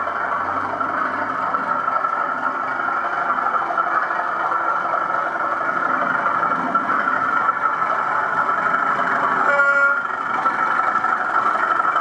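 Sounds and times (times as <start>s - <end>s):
diesel engine running from speaker: 0.0s - 12.0s.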